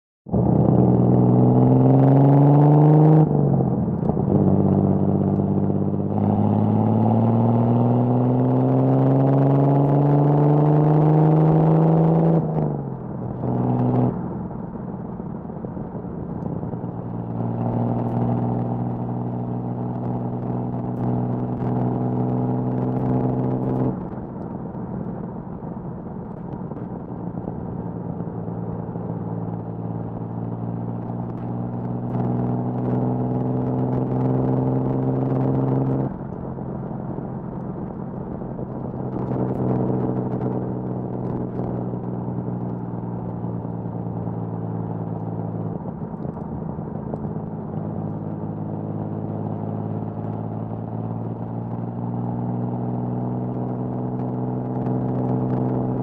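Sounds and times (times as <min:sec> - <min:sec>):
car engine accelerating: 0:00.3 - 0:56.0.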